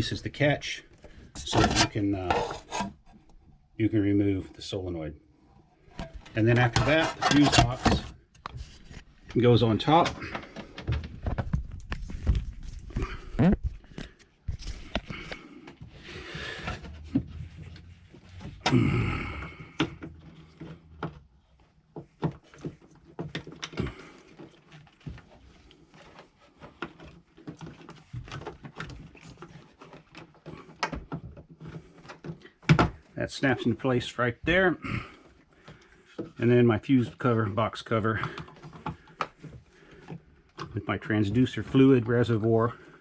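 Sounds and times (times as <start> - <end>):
scraping and handling: 0.0 - 3.6, 5.7 - 43.0.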